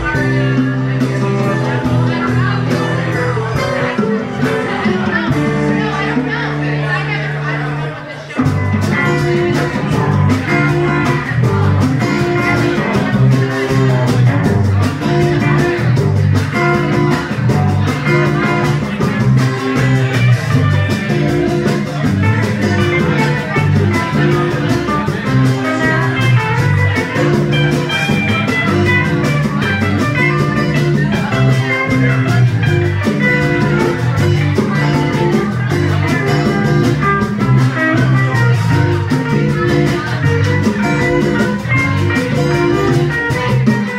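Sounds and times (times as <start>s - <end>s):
drum kit beat: 0.0s - 7.6s, 8.3s - 43.9s
bass line: 0.0s - 43.9s
guitar: 0.0s - 43.9s.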